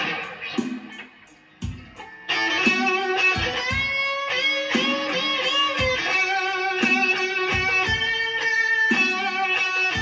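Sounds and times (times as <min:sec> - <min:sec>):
electric guitar blues lead: 0:00.0 - 0:10.0.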